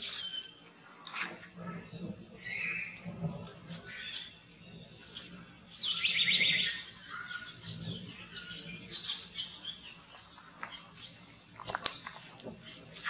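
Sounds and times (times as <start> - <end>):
faint chirps: 1.5 - 13.0.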